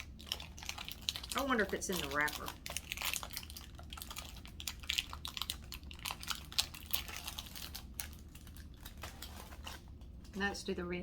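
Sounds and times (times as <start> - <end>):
plastic sleeve crinkling: 0.0 - 10.6.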